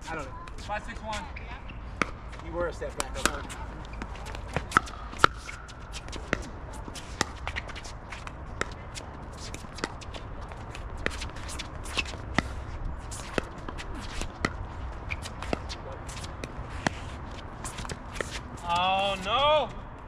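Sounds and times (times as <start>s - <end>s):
sneakers scuffing on court: 0.1s - 19.3s.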